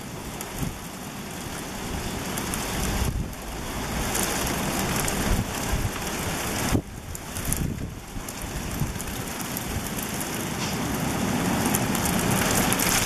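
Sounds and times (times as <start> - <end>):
gusty wind: 0.0 - 13.0
hail and snow pattering: 0.0 - 13.0.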